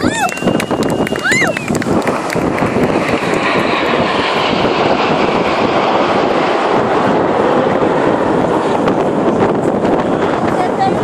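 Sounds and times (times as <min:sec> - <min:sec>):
jet whine falling in pitch: 0:00.0 - 0:09.4
jet roar passing: 0:00.0 - 0:11.0
wind on microphone: 0:00.0 - 0:11.0.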